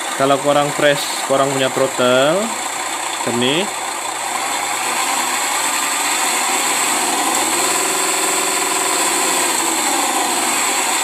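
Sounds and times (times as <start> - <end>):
simulated car engine sound: 0.0 - 11.0.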